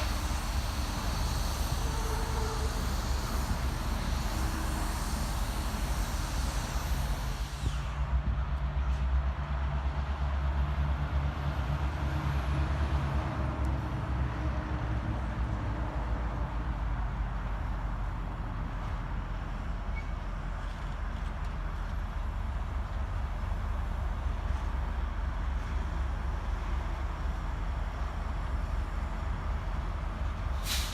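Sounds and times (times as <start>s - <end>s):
freight train rumbling by: 0.0s - 30.9s.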